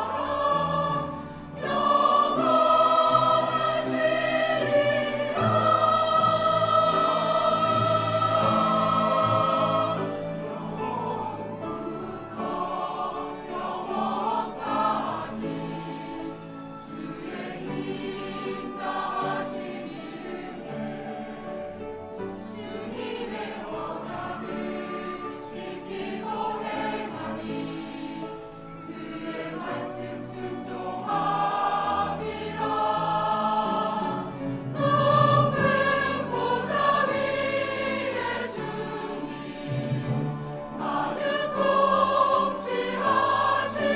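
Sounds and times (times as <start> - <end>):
church choir singing a hymn: 0.0 - 43.9
instrumental accompaniment: 0.0 - 43.9.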